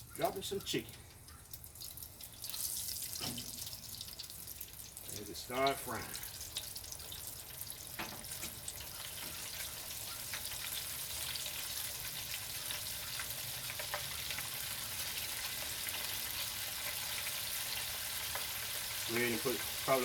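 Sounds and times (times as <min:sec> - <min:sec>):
chicken wings deep-frying in oil: 0:00.0 - 0:20.0.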